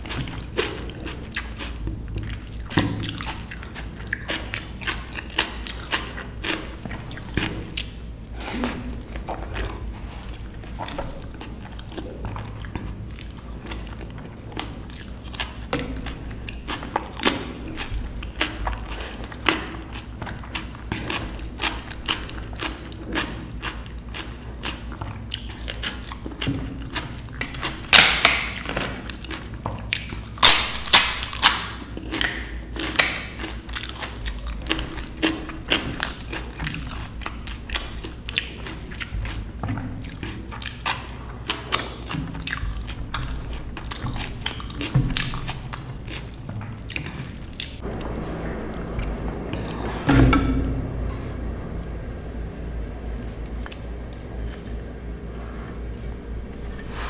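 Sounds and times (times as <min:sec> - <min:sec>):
chewing with wet mouth clicks: 0:00.0 - 0:08.1, 0:09.0 - 0:47.9.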